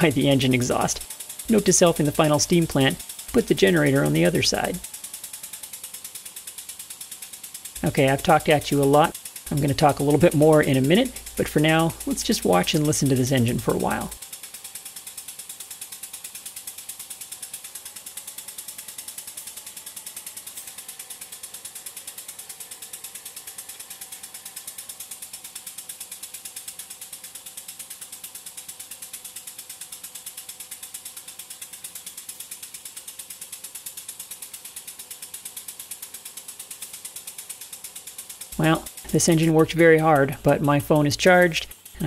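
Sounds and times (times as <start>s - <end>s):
model steam engine running: 0.0s - 42.0s.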